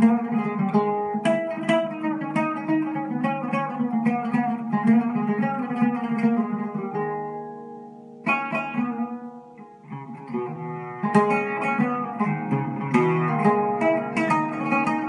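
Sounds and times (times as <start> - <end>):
oud plucking: 0.0 - 15.0.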